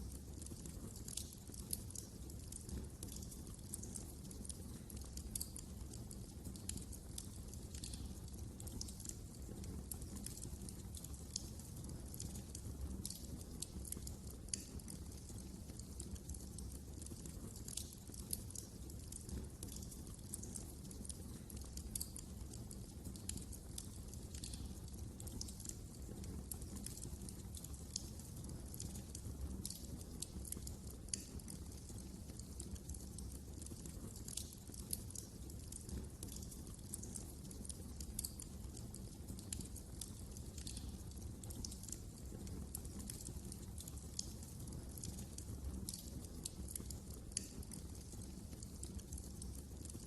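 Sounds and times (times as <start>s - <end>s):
low rumble of flames: 0.0s - 50.0s
wood fire crackling: 0.0s - 50.0s.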